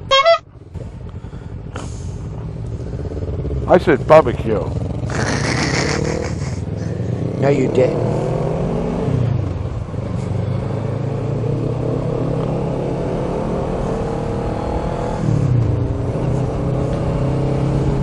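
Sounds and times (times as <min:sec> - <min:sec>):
motorcycle engine revving: 0:00.6 - 0:18.0.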